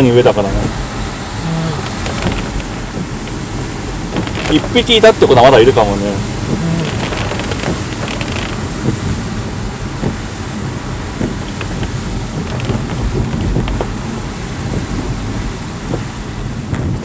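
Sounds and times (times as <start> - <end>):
tyres hissing on wet road: 0.0 - 17.0.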